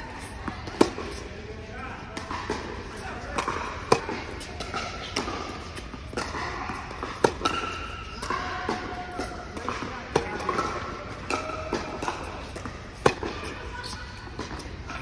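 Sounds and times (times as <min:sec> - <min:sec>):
tennis balls bouncing on court: 0:00.0 - 0:15.0
tennis balls hit by racquets: 0:00.0 - 0:15.0.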